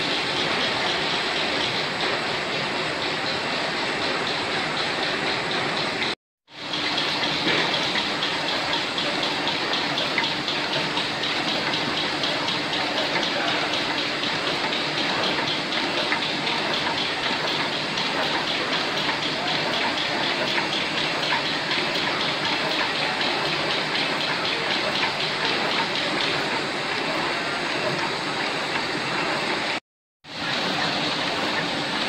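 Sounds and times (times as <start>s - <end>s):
cutting machine mechanical hiss: 0.0s - 32.0s
fast even machine ticking: 0.0s - 32.0s.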